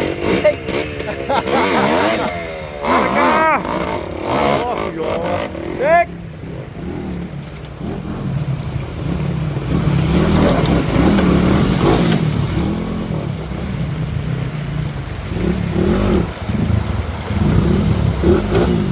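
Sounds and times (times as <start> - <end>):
motorcycle engine revving: 0.0 - 18.9.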